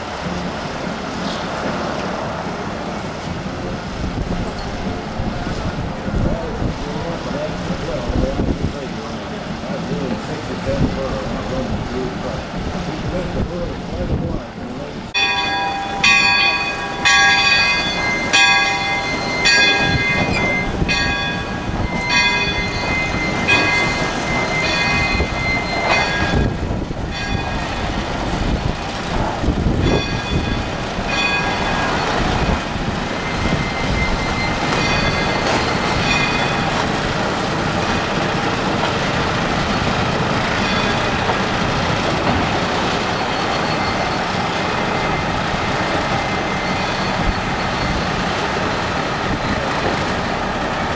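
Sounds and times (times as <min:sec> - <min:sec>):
diesel engine running: 0:00.0 - 0:50.9
train rumble: 0:00.0 - 0:50.9
locomotive bell ringing: 0:01.8 - 0:08.6, 0:15.1 - 0:50.9.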